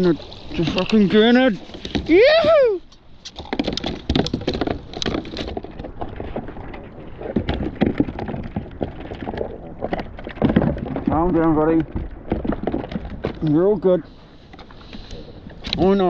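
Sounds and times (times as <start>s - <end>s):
fish slapping on plastic kayak: 0.0s - 13.6s.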